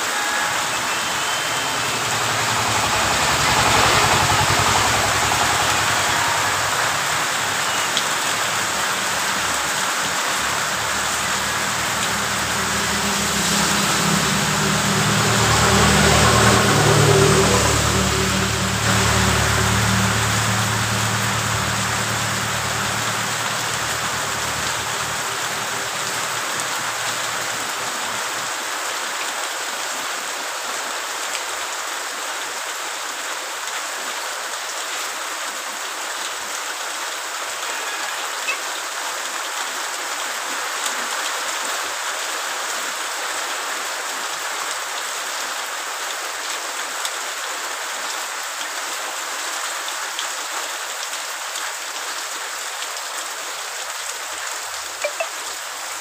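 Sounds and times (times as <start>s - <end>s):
rain on asphalt road: 0.0s - 56.0s.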